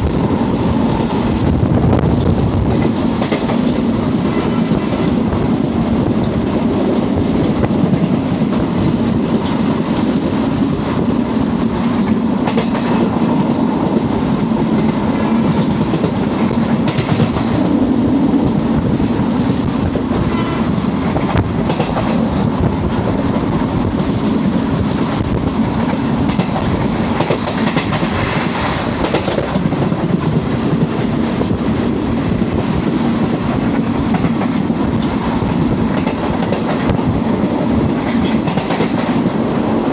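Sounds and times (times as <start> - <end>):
train wheels rumbling on track: 0.0 - 39.9
clacks over rail joints: 2.2 - 5.7, 7.2 - 14.1, 14.7 - 17.8, 19.0 - 31.2, 32.3 - 39.5.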